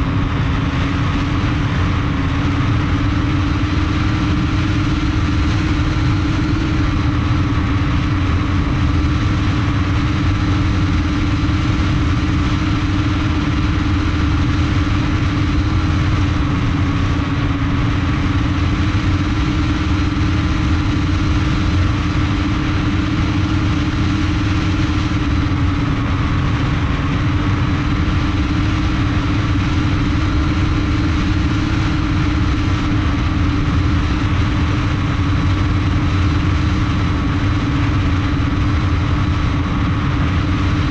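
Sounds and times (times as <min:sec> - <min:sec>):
drone propeller hum: 0:00.0 - 0:40.9
high motor whine: 0:00.0 - 0:40.9
low rumble: 0:00.0 - 0:40.9.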